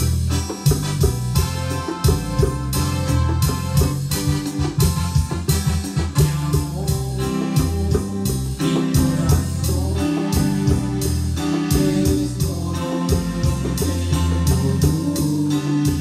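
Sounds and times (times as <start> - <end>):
bongos beat: 0.0 - 16.0
cumbia on electronic keyboards: 0.0 - 16.0.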